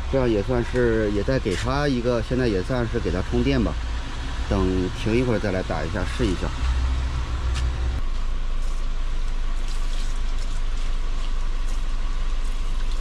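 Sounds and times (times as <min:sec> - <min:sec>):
idling engine hum: 0:00.0 - 0:13.0.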